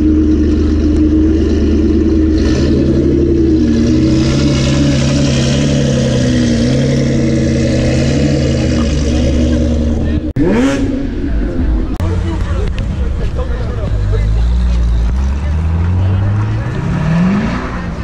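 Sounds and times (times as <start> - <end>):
car engine revving loudly: 0.0 - 11.4, 14.1 - 18.0.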